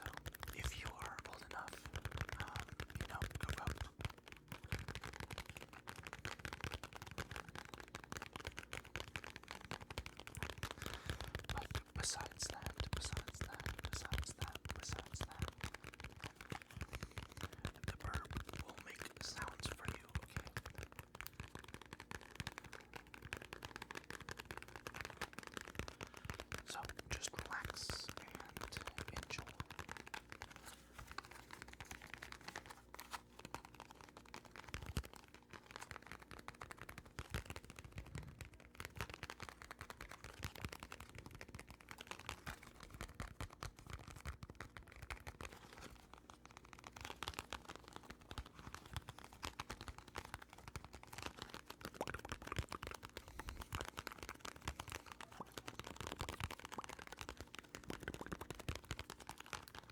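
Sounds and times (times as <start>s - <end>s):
soft quick clicks and taps: 0.0s - 59.9s.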